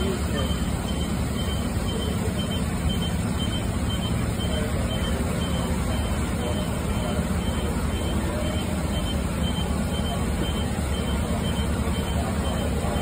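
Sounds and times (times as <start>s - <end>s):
diesel engines rumbling: 0.0s - 13.0s
faint high beeps: 0.0s - 13.0s
street traffic: 0.0s - 13.0s.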